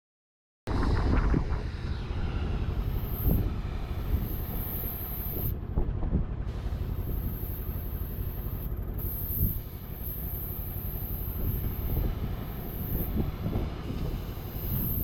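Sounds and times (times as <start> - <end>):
mechanical rumble with knocks: 0.7 - 15.0.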